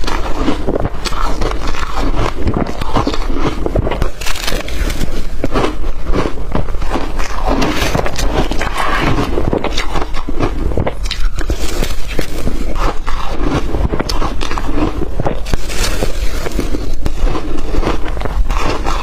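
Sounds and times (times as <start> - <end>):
person chewing ice: 0.0 - 19.0.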